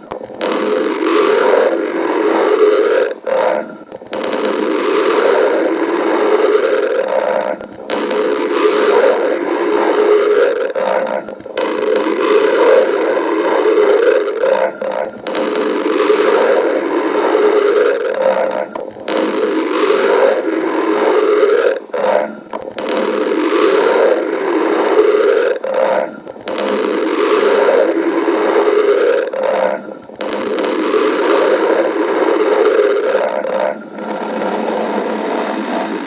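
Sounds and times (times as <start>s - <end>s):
stomach growling: 0.0s - 36.0s.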